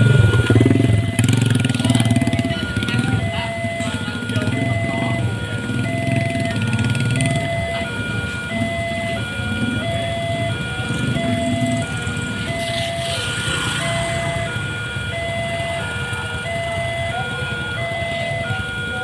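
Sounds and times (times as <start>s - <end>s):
scooter passing: 0.0s - 17.3s
motorcycle engines idling: 0.0s - 19.0s
two-tone crossing alarm: 0.0s - 19.0s.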